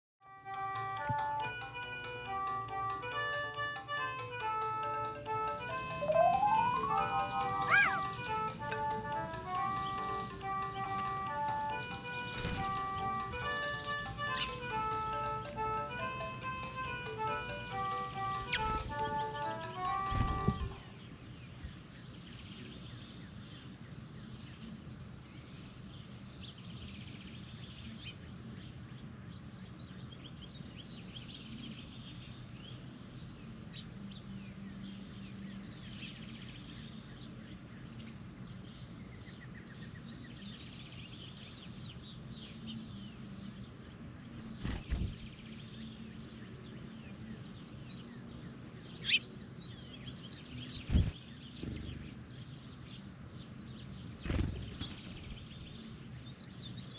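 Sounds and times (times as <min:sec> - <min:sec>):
birds chirping: 0:00.3 - 0:26.8, 0:27.4 - 0:56.9.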